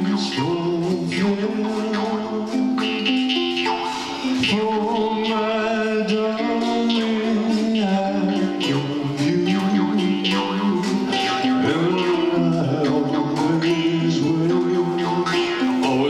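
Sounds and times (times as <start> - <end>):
man singing: 0.0 - 16.0
strummed ukulele: 0.0 - 16.0.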